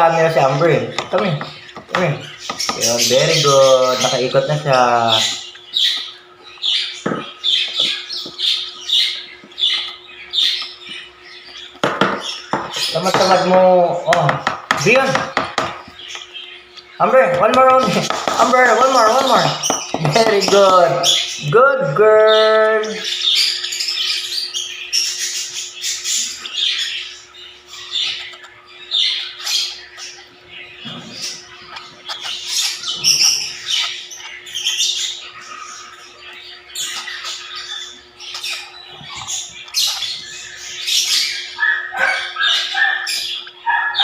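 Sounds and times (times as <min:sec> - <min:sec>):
lovebird chirping: 0:00.0 - 0:21.5, 0:22.2 - 0:44.0.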